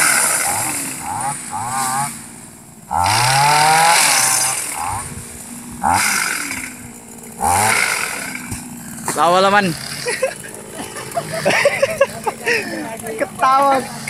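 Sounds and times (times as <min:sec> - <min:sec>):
motorized pole cutter revving: 0:00.0 - 0:14.0.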